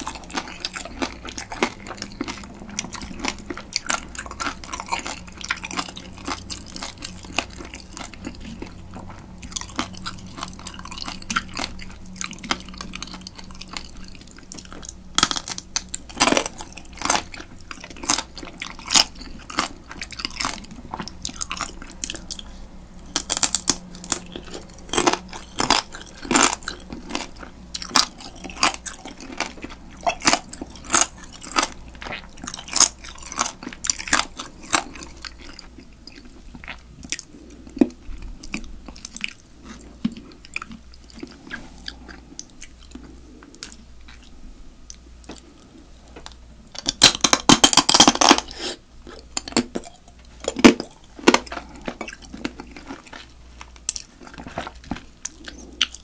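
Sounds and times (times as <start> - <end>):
chewing and biting crab: 0.0 - 56.0
crab shell crunching: 0.0 - 56.0.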